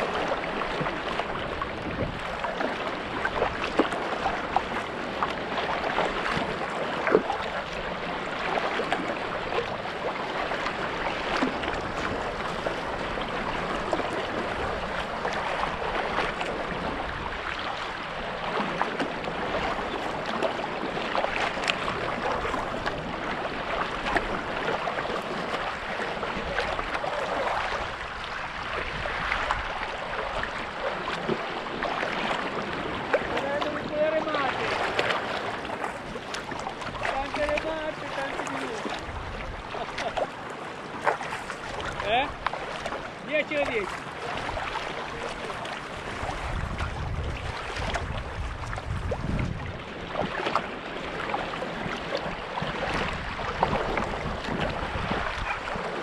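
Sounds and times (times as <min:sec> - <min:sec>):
paddle splashing in water: 0:00.0 - 0:56.0
water washing along hull: 0:00.0 - 0:56.0.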